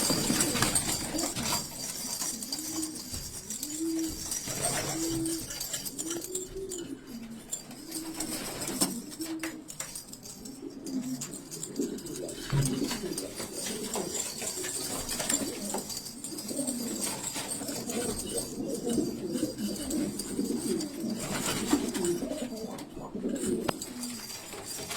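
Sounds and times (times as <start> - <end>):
pigeons cooing: 0.0 - 24.9.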